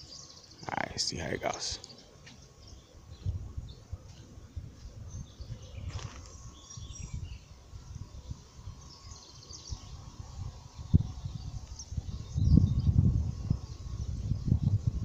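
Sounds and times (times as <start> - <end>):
wind rumbling on microphone: 2.7 - 15.0.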